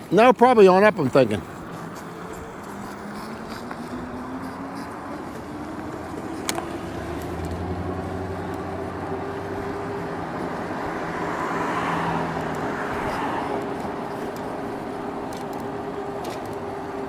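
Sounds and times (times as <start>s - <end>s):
vehicle engine hum: 0.0s - 17.0s
wind and tyre noise: 0.0s - 17.0s.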